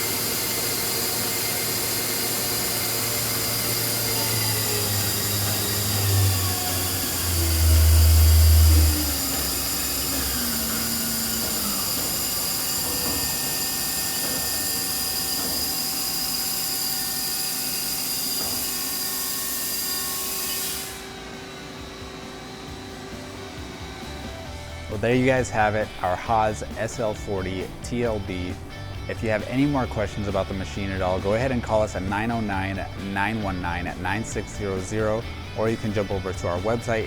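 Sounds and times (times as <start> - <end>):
lathe high whine: 0.0 - 37.0.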